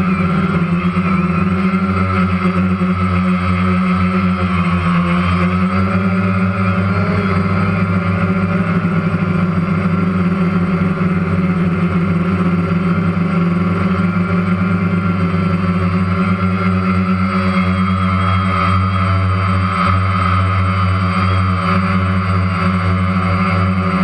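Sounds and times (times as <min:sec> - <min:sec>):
drone motors humming and whining: 0:00.0 - 0:24.0.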